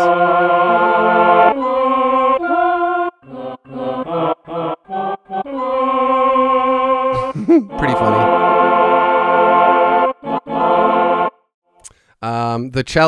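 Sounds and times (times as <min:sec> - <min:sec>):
sampled choir chords on keyboard: 0:00.0 - 0:11.5.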